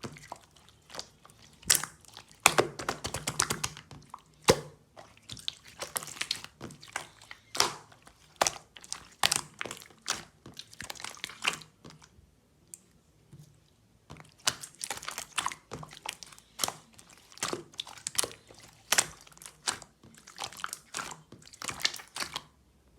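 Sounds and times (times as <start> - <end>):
quick clicks taps and crinkles: 0.0 - 4.8, 5.4 - 12.1, 14.1 - 22.5.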